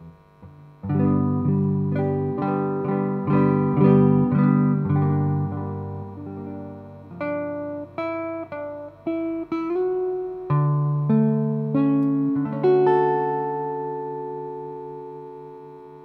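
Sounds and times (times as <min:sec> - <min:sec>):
electric guitar picked notes: 0:00.0 - 0:16.0.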